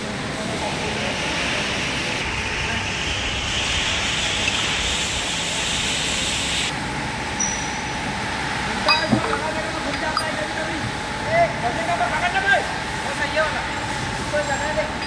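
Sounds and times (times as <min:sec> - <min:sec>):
workshop machinery noise: 0:00.0 - 0:15.0.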